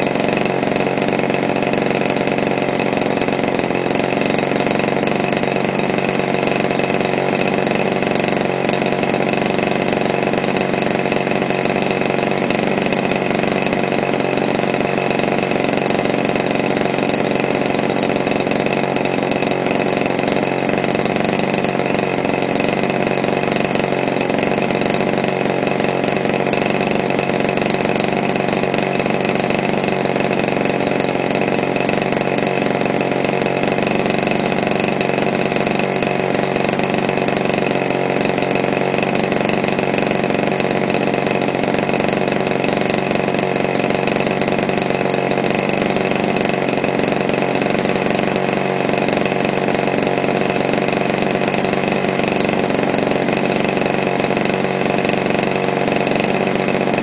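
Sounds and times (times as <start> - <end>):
model plane engine running: 0.0 - 57.0.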